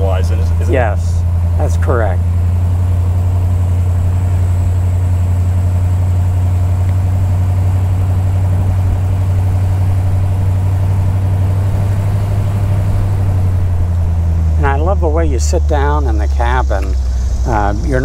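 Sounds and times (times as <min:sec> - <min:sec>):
low car engine drone: 0:00.0 - 0:18.0.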